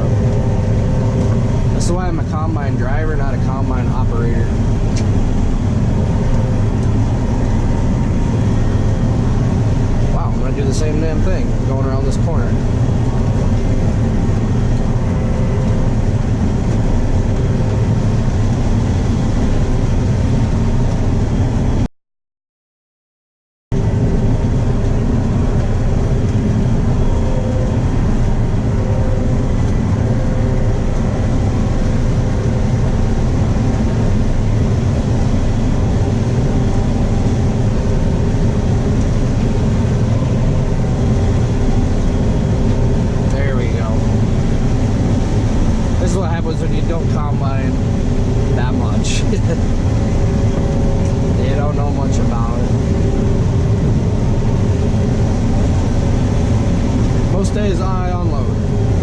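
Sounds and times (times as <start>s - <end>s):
combine harvester engine drone: 0.0s - 21.9s, 23.7s - 59.0s.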